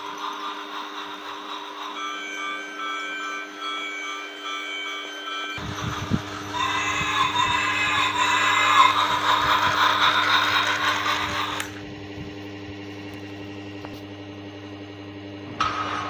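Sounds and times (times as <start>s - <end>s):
toy electric motor whirring: 0.0s - 13.4s.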